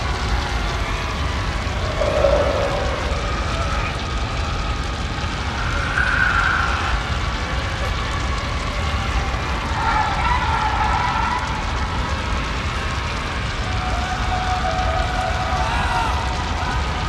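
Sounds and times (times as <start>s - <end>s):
low rumble: 0.0s - 13.9s
ghostly wailing cries: 0.0s - 17.0s.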